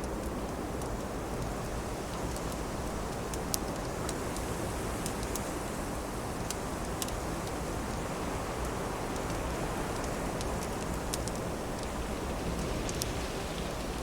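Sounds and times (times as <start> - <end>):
burning wood crackling: 0.0 - 14.0
steady wind: 0.0 - 14.0.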